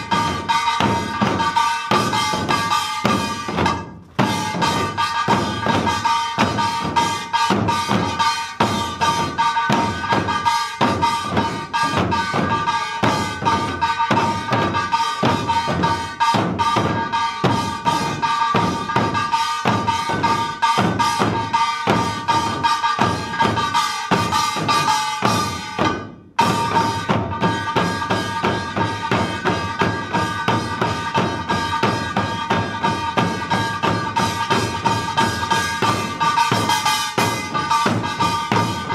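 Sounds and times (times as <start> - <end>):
barrel drums beaten fast: 0.0 - 38.9.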